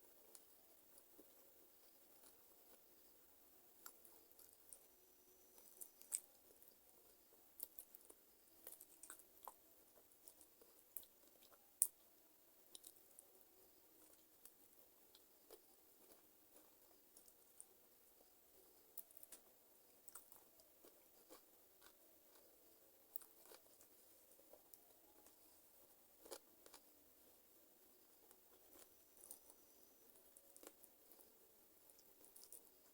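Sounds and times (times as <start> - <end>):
wet chewing with crackles: 0.2 - 3.1, 3.7 - 32.9.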